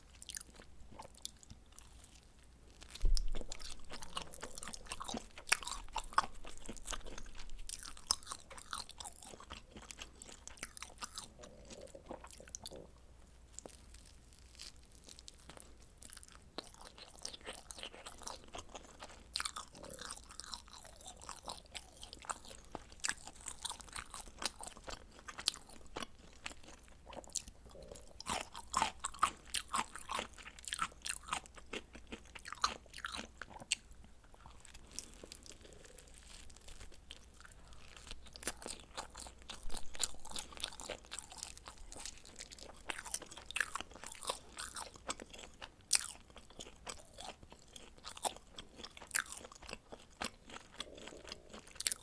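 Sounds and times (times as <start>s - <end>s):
chewing crunchy food: 0.0s - 52.0s.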